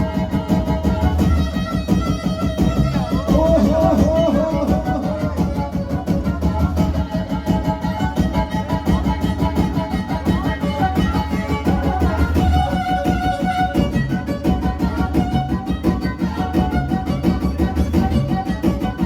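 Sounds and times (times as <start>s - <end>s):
fiddle playing fast dance tune: 0.0s - 19.0s.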